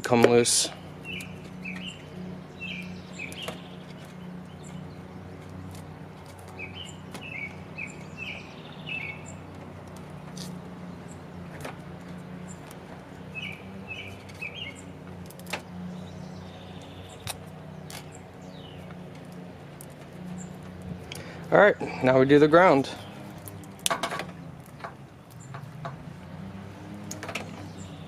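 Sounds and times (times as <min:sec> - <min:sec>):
small bird chirping: 0:00.6 - 0:28.0.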